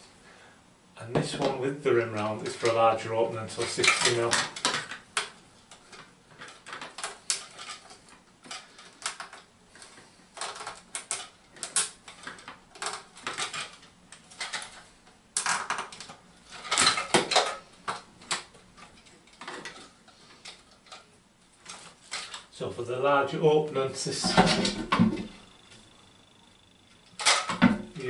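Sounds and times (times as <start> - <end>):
plastic parts clicking and clattering: 1.2 - 22.5, 24.0 - 25.7, 26.8 - 28.0.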